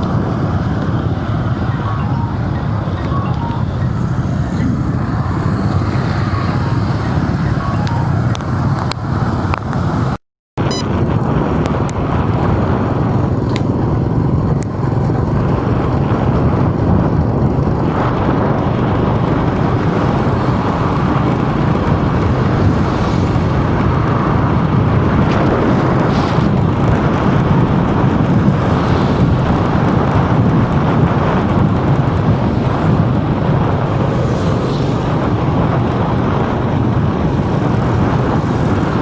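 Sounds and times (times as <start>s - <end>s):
vehicle road and engine rumble: 0.0s - 39.0s.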